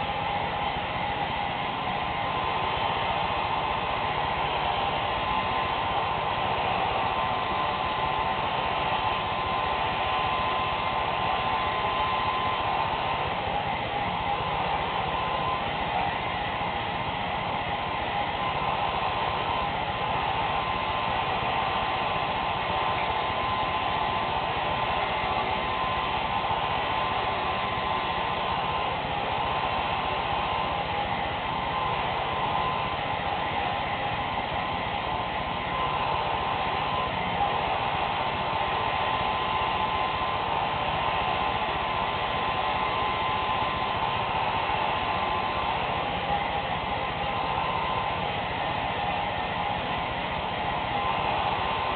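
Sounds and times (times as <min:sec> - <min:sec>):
hair dryer blowing: 0:00.0 - 0:51.9.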